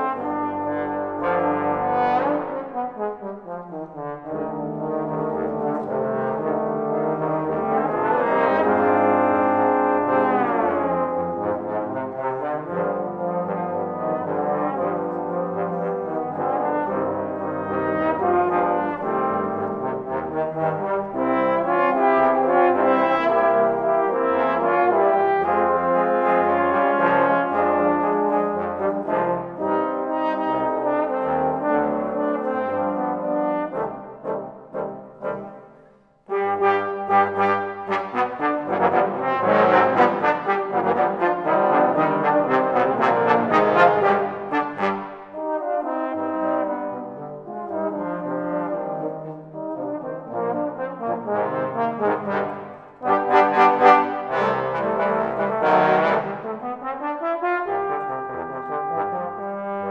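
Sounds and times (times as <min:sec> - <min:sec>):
trombones playing in harmony: 0:00.0 - 0:59.9.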